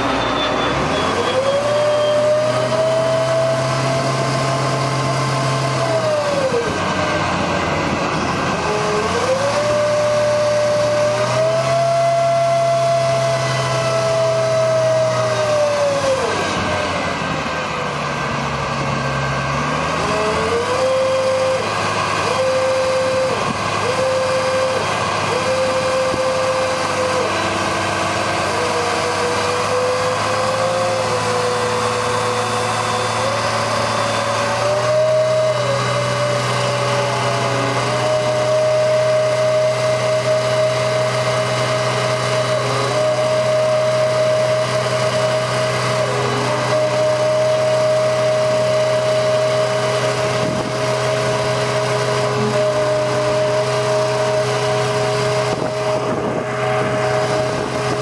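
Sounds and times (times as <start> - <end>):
truck engine and hydraulic whine: 0.0 - 58.0.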